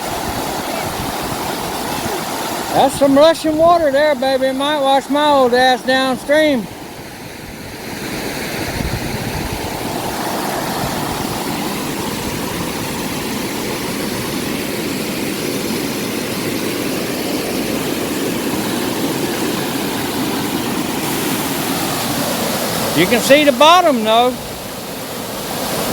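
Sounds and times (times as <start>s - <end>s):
mountain river rushing: 0.0s - 25.9s.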